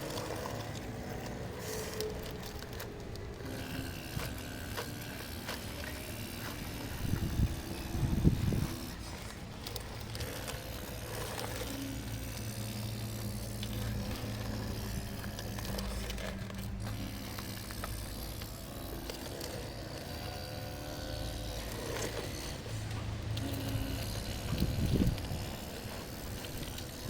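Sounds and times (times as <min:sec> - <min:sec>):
model excavator motor humming: 0:00.0 - 0:27.0.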